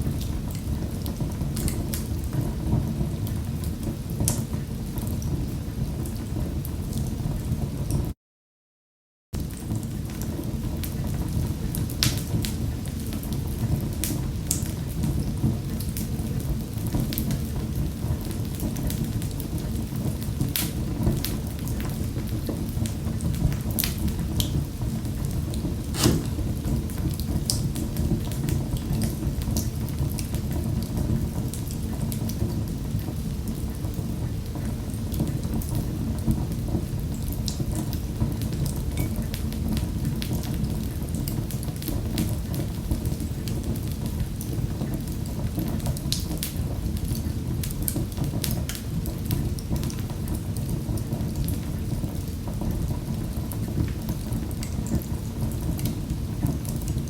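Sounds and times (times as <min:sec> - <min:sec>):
burning logs crackling and popping: 0:09.4 - 0:57.0
wood fire flames rushing: 0:09.5 - 0:57.0.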